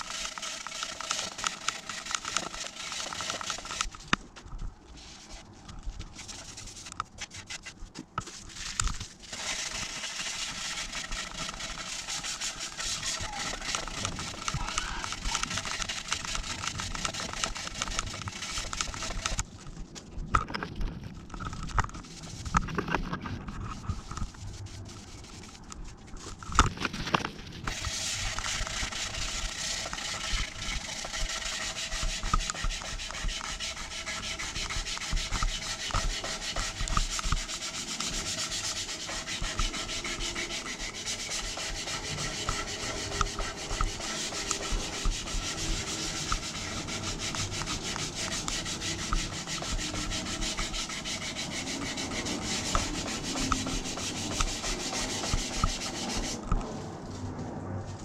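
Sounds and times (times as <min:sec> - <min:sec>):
scouring pad scrubbing: 0:00.0 - 0:03.9, 0:06.2 - 0:19.4, 0:23.5 - 0:25.7, 0:27.7 - 0:56.8.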